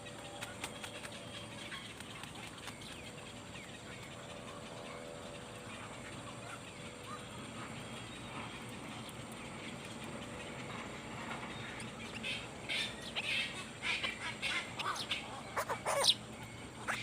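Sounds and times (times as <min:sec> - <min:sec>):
nestling birds calling: 0:00.0 - 0:17.0.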